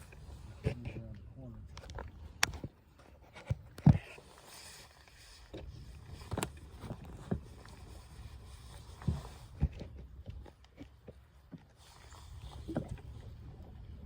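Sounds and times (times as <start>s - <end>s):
knocks and thuds in boat: 0.0s - 4.3s, 5.5s - 11.8s, 12.5s - 14.0s.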